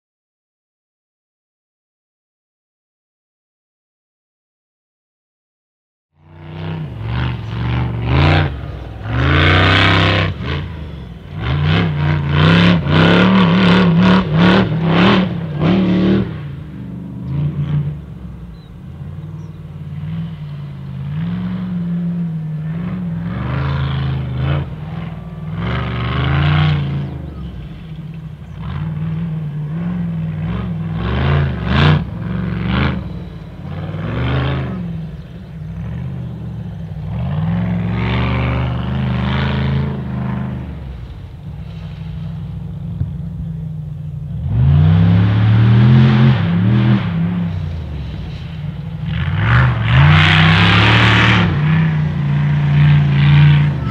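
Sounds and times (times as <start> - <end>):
race car engine revving: 6.2 - 53.9.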